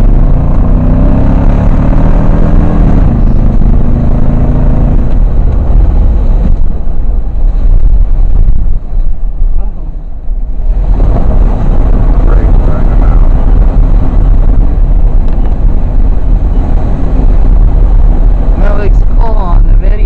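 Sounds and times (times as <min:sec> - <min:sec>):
loud steady rushing noise: 0:00.0 - 0:20.0
truck engine revving: 0:00.0 - 0:20.0.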